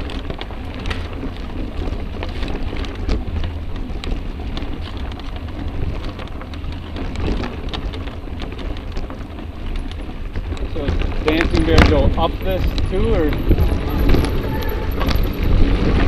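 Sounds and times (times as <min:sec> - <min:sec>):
bike tyres rolling on dirt: 0:00.0 - 0:16.0
wind buffeting microphone: 0:00.0 - 0:16.0.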